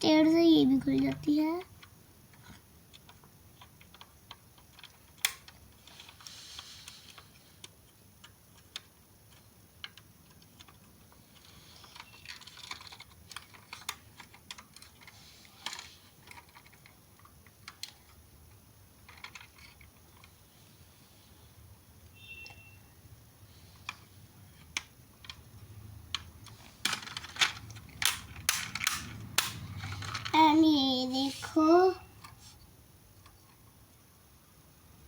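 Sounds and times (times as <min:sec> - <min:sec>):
toy car clicks and rustling: 0:00.1 - 0:20.4, 0:23.8 - 0:32.4.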